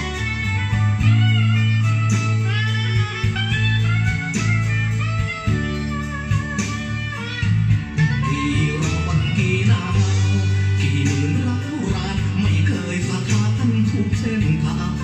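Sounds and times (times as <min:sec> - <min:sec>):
guitar music over speakers: 0:00.0 - 0:15.0.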